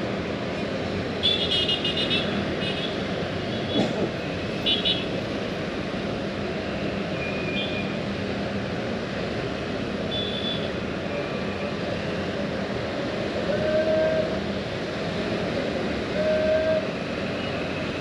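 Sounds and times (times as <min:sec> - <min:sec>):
vehicle running noise: 0:00.0 - 0:18.0.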